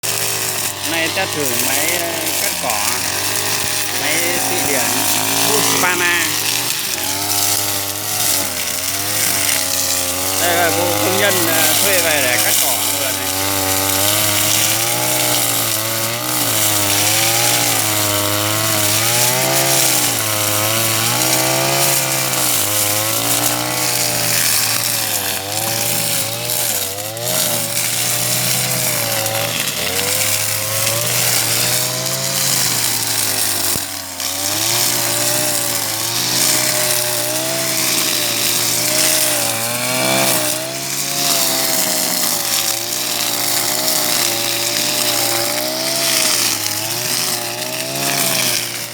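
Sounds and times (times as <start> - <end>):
brushcutter cutting grass: 0.0 - 48.9.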